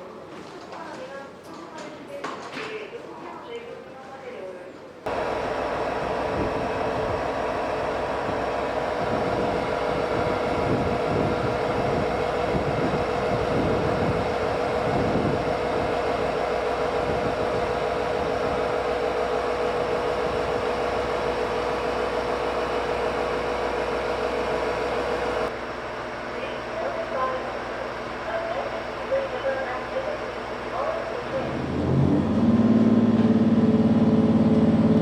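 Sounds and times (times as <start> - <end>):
train rumble: 5.1 - 35.0
train running hum: 5.1 - 35.0.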